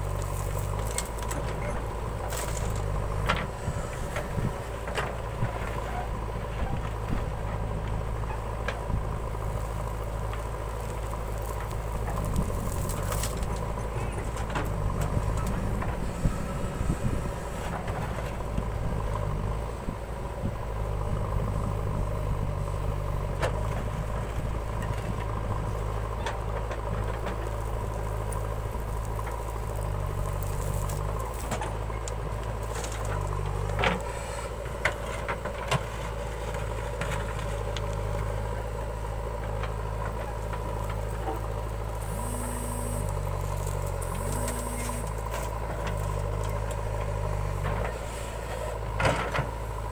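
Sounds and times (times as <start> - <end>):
diesel backhoe engine running: 0.0 - 49.9.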